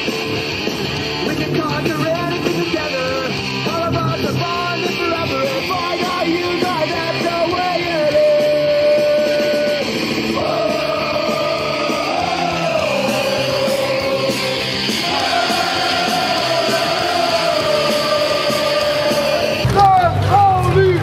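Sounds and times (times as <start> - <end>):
rock music with guitar: 0.0 - 21.0
person singing: 1.2 - 19.7.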